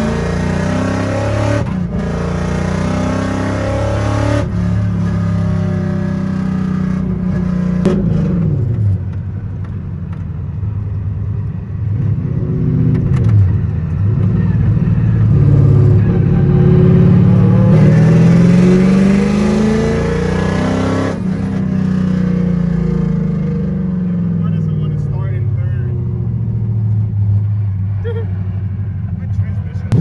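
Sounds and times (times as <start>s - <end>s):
car engine revving: 0.0s - 9.0s, 12.0s - 27.5s, 29.3s - 30.0s.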